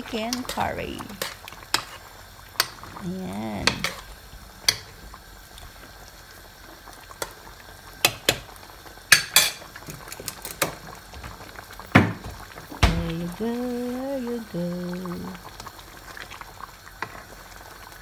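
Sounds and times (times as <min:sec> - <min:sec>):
curry bubbling in a pan: 0:00.0 - 0:18.0.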